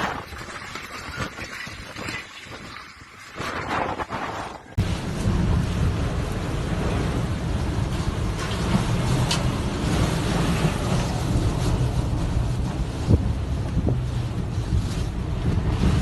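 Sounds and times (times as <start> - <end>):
storm wind and rain: 0.0 - 16.0.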